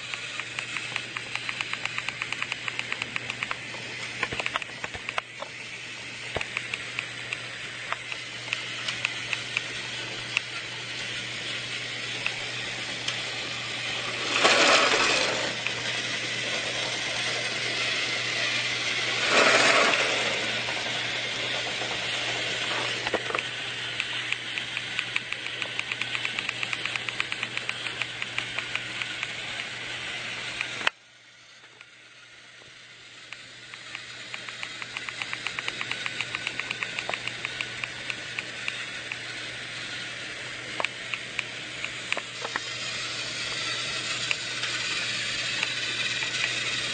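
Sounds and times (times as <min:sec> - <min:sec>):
toy train motor whirring and clicking: 0:00.0 - 0:46.9.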